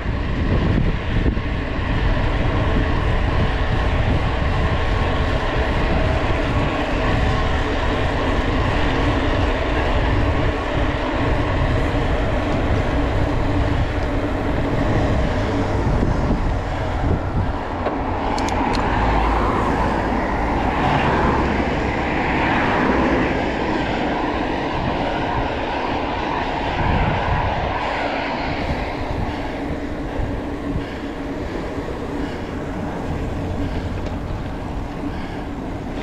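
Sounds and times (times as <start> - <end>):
tyre noise on asphalt: 0.0 - 36.0
wind rushing over microphone: 0.0 - 36.0.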